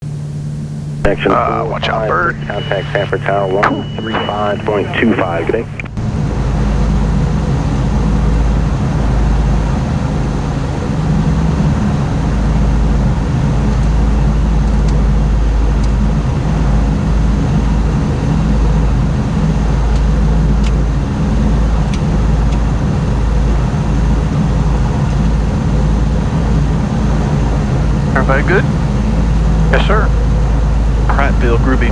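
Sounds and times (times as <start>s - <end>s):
propeller plane engine drone: 0.0s - 31.9s.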